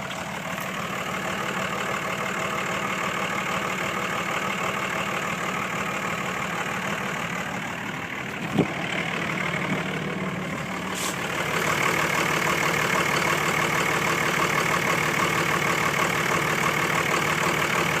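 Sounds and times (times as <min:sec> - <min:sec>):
diesel engine idling roughly: 0:00.0 - 0:18.0.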